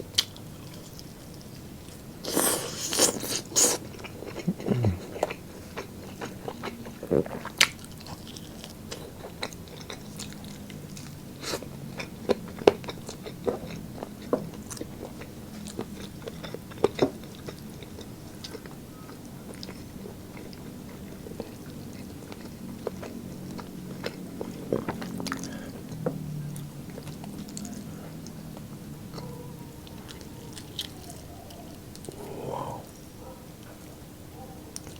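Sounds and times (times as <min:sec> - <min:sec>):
food crunching: 0:00.1 - 0:34.0
person chewing food: 0:00.1 - 0:34.0.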